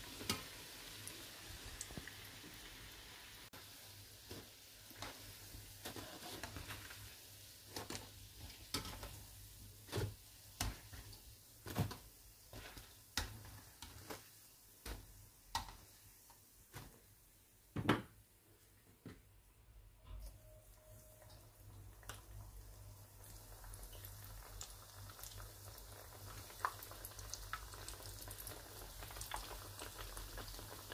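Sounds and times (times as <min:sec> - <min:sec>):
oil sizzling: 0:00.0 - 0:17.3, 0:21.0 - 0:30.9.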